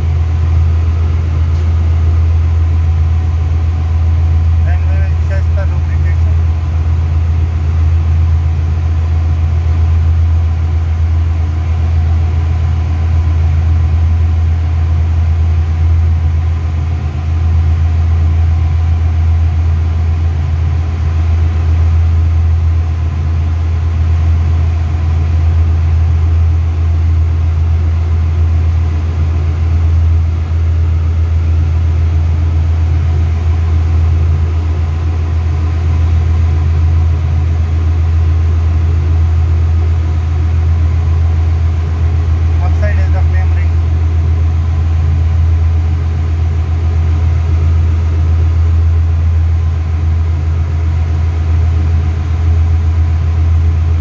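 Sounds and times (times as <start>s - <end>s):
engine-room machinery hum: 0.0s - 54.0s.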